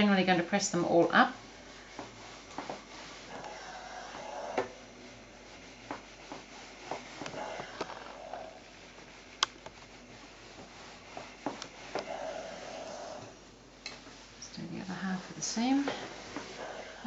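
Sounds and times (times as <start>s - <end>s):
cotton fabric rustling: 0.0s - 17.0s.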